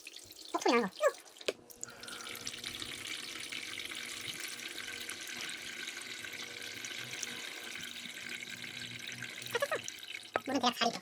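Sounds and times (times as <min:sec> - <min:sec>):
water filling a tank: 0:00.0 - 0:11.0.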